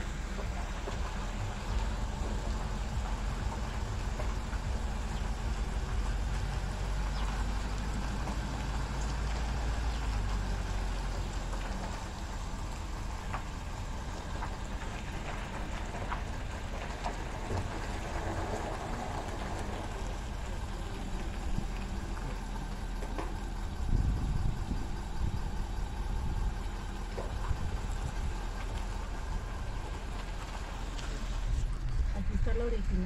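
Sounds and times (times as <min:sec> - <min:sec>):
road rumble and tyre noise: 0:00.0 - 0:33.0.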